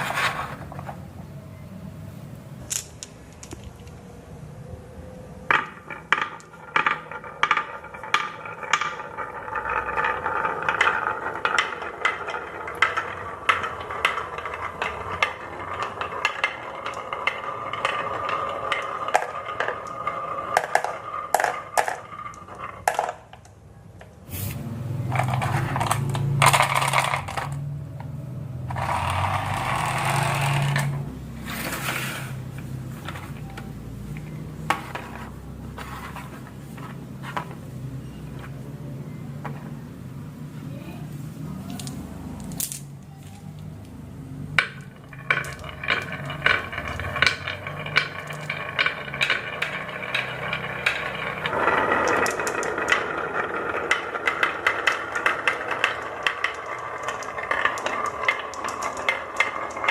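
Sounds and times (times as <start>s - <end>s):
marbles clattering down track: 0.0s - 1.4s, 5.3s - 39.8s, 41.6s - 59.9s
marbles rolling rumble: 0.0s - 1.7s, 2.4s - 40.4s, 41.5s - 59.9s.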